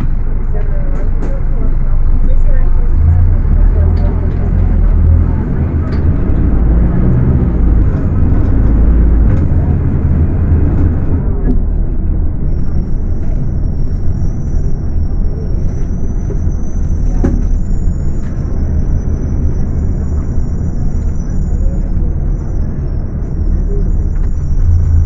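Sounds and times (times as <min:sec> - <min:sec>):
bus diesel engine droning: 0:00.0 - 0:25.0.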